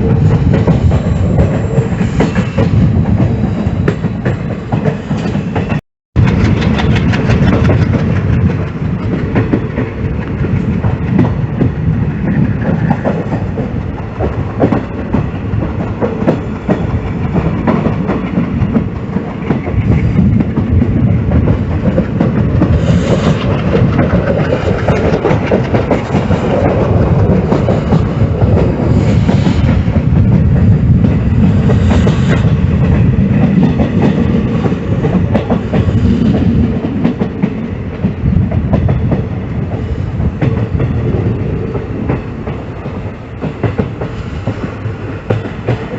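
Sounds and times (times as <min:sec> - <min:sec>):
train rumbling on track: 0:00.0 - 0:45.9
wheels clicking over rail joints: 0:00.0 - 0:45.9.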